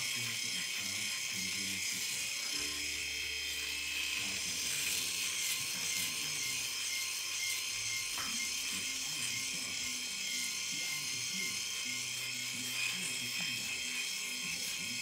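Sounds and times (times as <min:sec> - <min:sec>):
electric shaver cutting stubble: 0:00.0 - 0:15.0.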